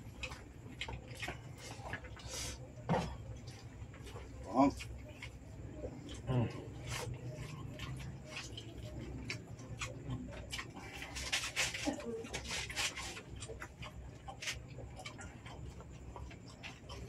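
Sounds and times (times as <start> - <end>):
steady low hum: 0.0 - 17.0
wet chewing and lip smacks: 0.0 - 17.0.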